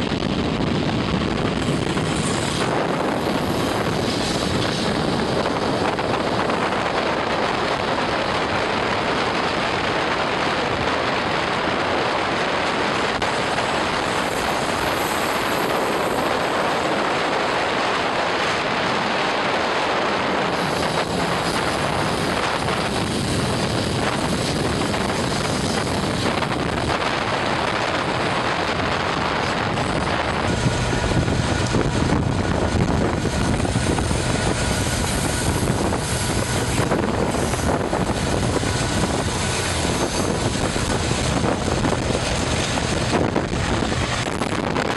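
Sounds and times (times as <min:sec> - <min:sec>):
locomotive engine drone: 0:00.0 - 0:44.9
steady whine: 0:00.0 - 0:44.9
train wheel and rail noise: 0:00.0 - 0:44.9.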